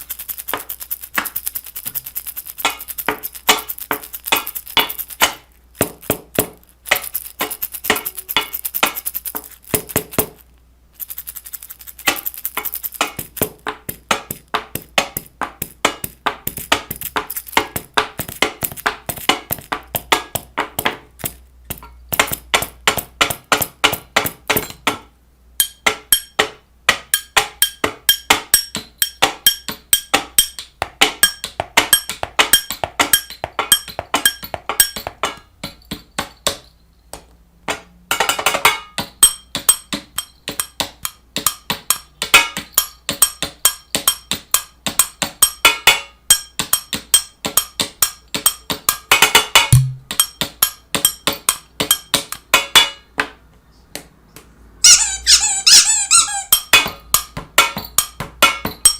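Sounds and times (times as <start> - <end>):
sharp clicks and knocks: 0.0 - 53.0.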